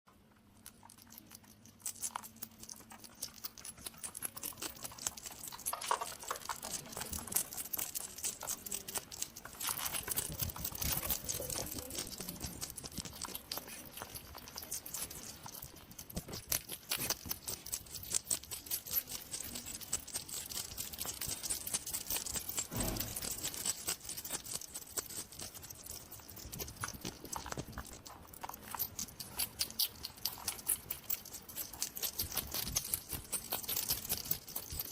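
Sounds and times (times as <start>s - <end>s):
quick irregular clicks and crunches: 0.1s - 34.9s
hedgehog snuffling and rustling: 0.6s - 34.9s.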